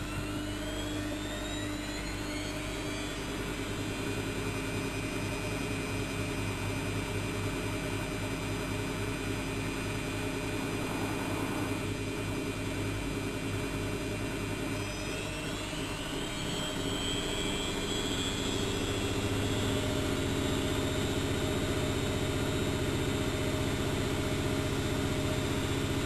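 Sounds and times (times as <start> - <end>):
washing machine motor whine: 0.0 - 26.0.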